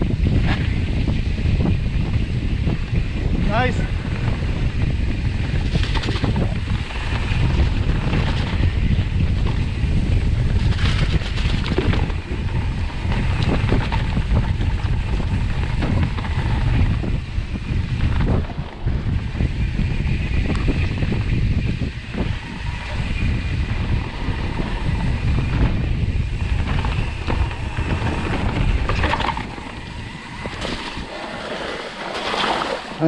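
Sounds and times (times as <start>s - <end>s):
bike clicks and rattles: 0.0s - 33.0s
wind buffeting the microphone: 0.0s - 33.0s
tyres rumbling on dirt: 4.0s - 33.0s.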